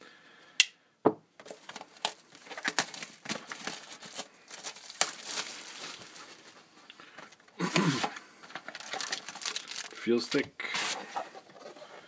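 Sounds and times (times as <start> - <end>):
plastic wrapping crinkling and tearing: 1.4 - 11.8.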